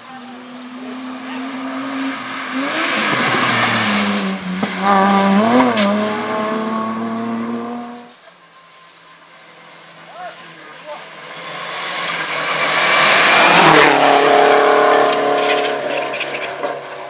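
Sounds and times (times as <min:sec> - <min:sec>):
rally car engine revving: 0:00.0 - 0:08.2, 0:11.0 - 0:17.0.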